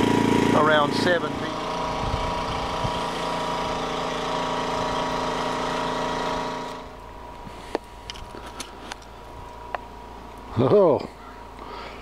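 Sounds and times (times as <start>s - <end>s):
small engine running: 0.0s - 9.7s.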